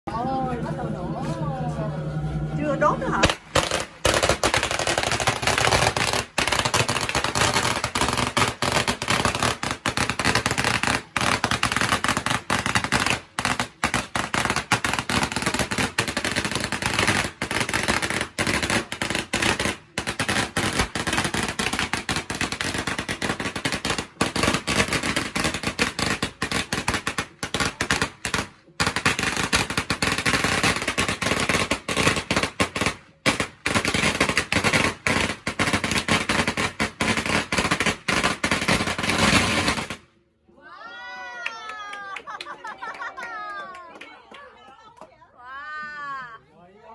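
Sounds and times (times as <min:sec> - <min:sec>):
firecrackers crackling: 0:02.6 - 0:40.2.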